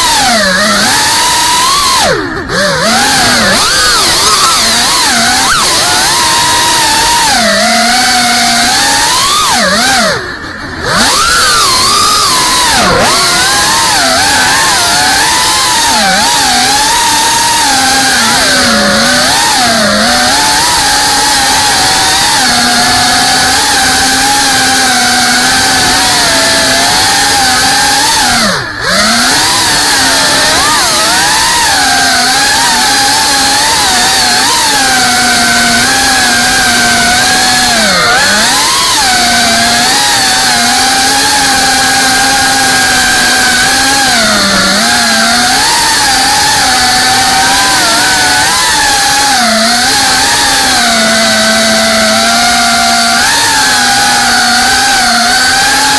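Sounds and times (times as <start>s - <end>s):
quadcopter motors whining: 0.0s - 55.9s.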